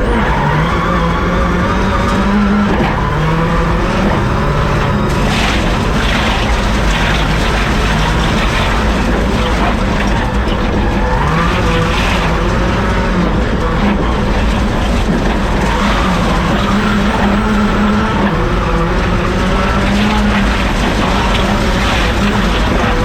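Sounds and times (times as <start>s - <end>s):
rally car engine revving: 0.0s - 23.0s
tyre and road noise: 0.0s - 23.0s.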